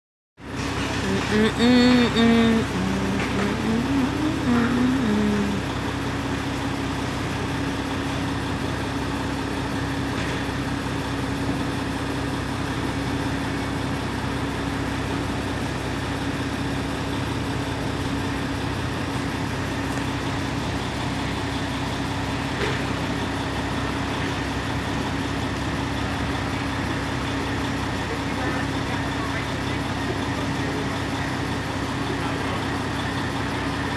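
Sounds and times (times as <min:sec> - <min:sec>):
city street traffic: 0:00.4 - 0:33.9
diesel truck idling: 0:00.4 - 0:33.9.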